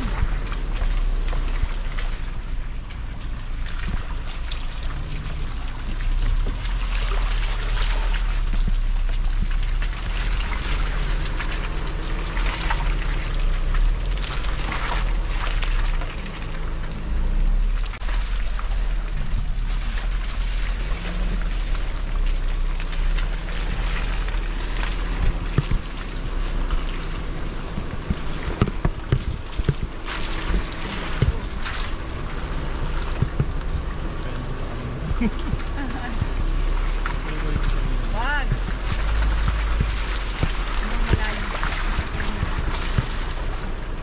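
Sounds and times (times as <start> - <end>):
car engine hum: 0.0 - 44.0
heavy low rumble: 0.0 - 44.0
rattles and ticks: 0.0 - 44.0
tyres crunching on dirt: 0.0 - 44.0.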